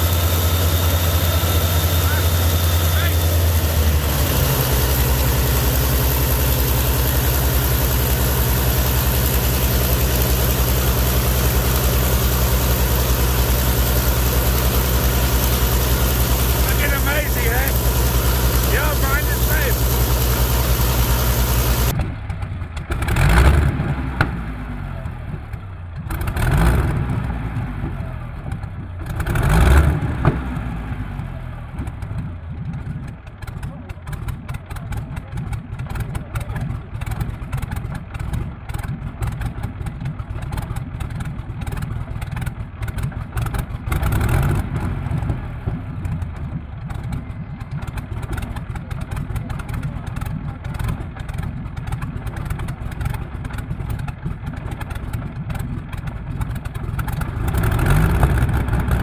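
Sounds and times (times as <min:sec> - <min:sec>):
aero engine starting and running: 0:00.0 - 0:59.0.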